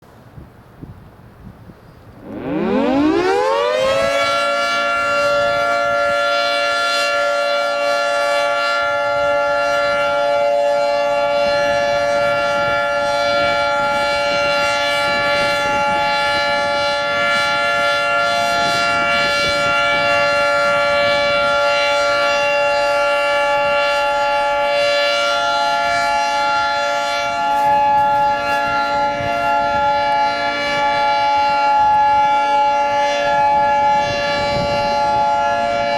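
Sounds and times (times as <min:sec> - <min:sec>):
tornado siren winding up: 0:02.1 - 0:35.9.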